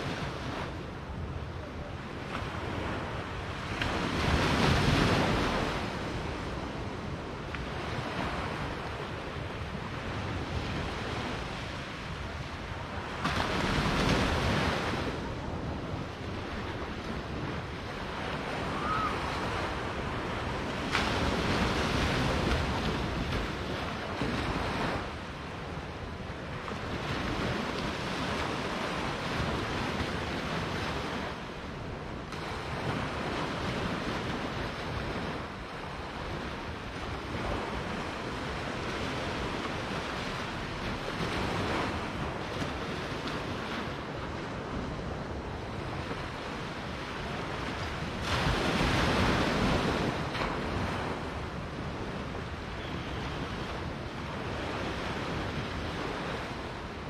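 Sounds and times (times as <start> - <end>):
small waves washing on shore: 0.0 - 57.0.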